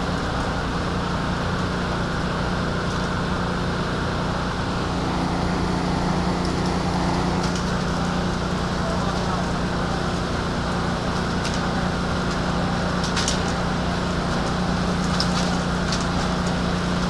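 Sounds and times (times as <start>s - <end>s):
sawmill machinery droning: 0.7s - 17.0s.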